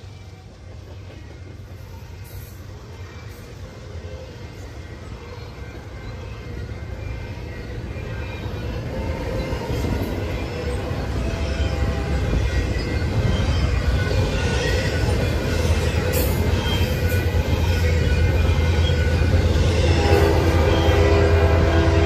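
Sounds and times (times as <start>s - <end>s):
train low rumble: 0.0s - 22.0s.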